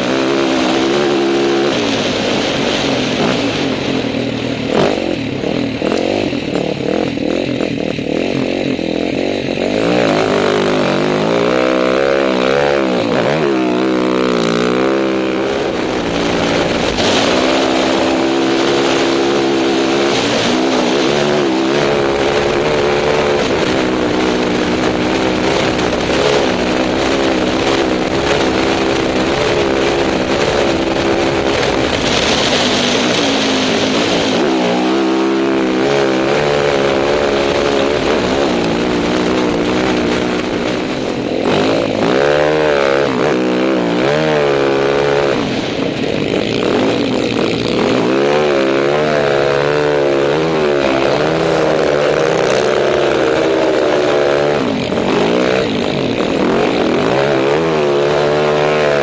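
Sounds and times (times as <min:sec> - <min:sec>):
motorcycle engine revving: 0:00.0 - 0:59.0
wind noise on microphone: 0:00.0 - 0:59.0.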